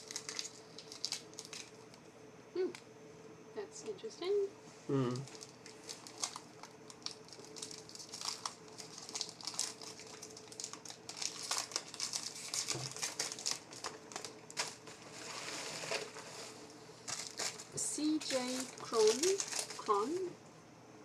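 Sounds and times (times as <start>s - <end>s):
packaging crinkling and rustling: 0.0s - 2.0s, 5.3s - 20.3s.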